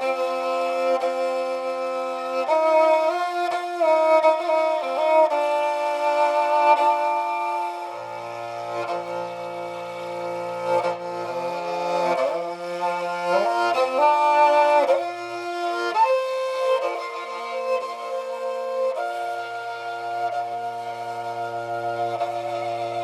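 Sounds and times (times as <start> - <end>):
bowed fiddle melody: 0.0 - 23.0.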